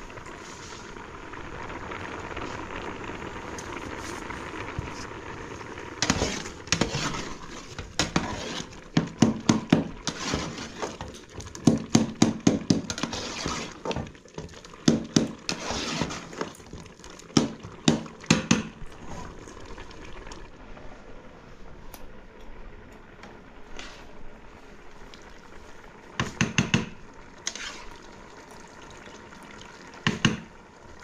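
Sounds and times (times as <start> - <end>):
sauce bubbling: 0.0 - 21.5, 22.2 - 31.0.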